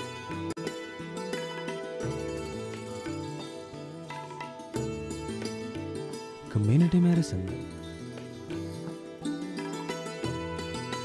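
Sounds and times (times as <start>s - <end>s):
plucked-string notes: 0.0s - 11.0s.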